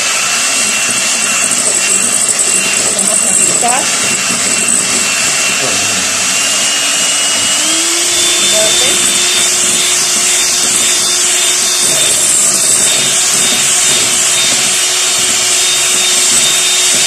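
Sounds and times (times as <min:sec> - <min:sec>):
electric hand mixer whirring: 0:00.0 - 0:17.0.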